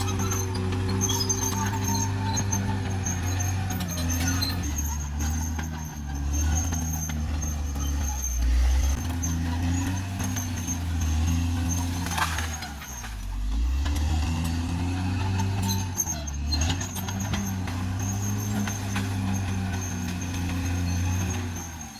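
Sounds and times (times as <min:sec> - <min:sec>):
bulldozer diesel engine under load: 0:00.0 - 0:21.9.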